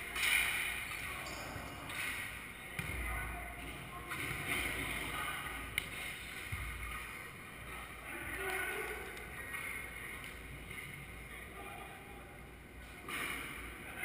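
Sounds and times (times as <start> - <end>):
distant voices in echoing hall: 0.0 - 14.0.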